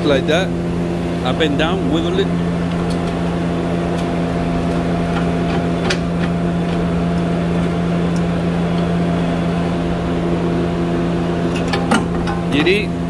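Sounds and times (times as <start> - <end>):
shop machinery hum: 0.0 - 13.0.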